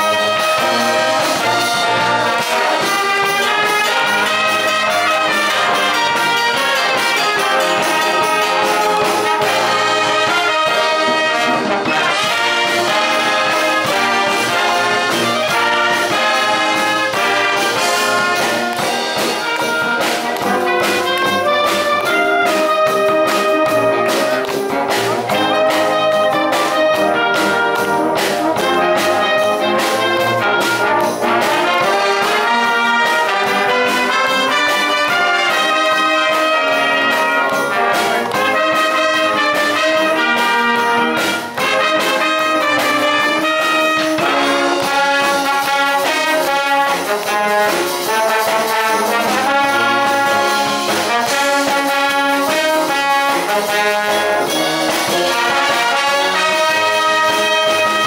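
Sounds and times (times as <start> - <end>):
trombones and trumpets: 0.0 - 58.0
wind band playing: 0.0 - 58.0.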